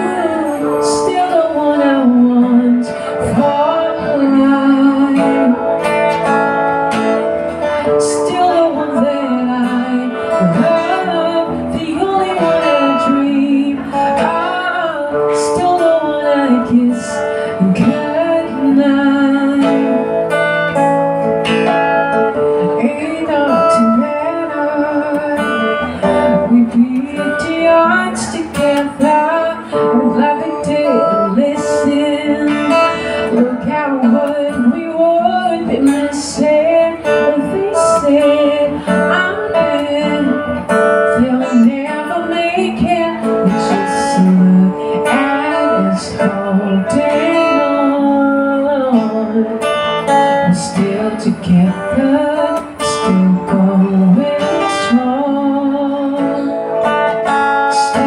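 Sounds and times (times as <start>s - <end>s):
acoustic guitar strumming: 0.0s - 58.0s
person singing: 0.0s - 58.0s.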